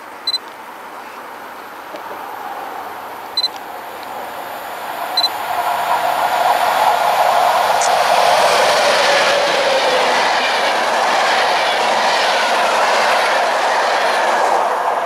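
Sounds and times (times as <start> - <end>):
train rail and running noise: 0.0 - 15.0.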